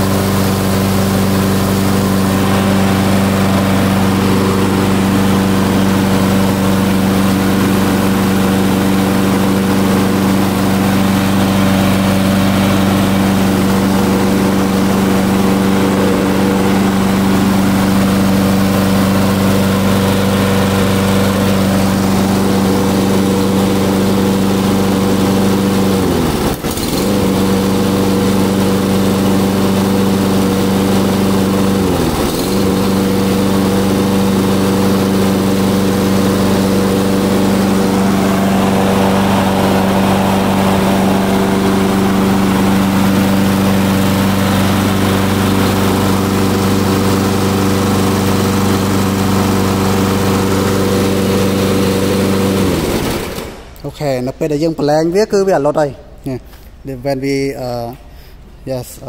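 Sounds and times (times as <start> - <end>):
lawnmower engine running: 0.0 - 53.9.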